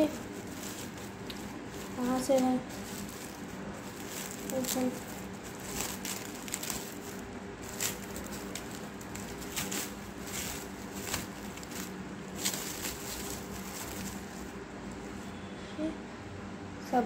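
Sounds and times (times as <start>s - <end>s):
cling film crinkling: 0.0s - 15.3s.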